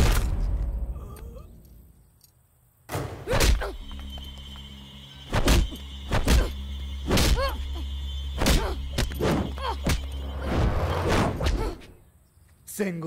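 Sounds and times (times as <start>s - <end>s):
low background score: 0.0s - 13.0s.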